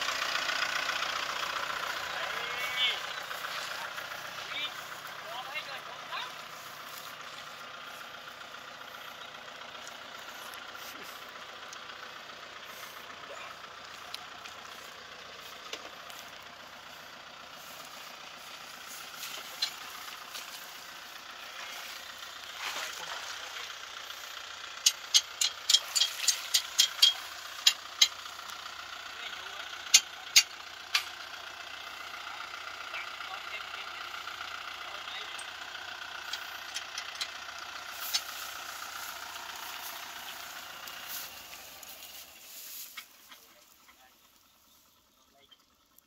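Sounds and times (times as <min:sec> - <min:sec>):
distant tractor engine running: 0:00.0 - 0:46.0.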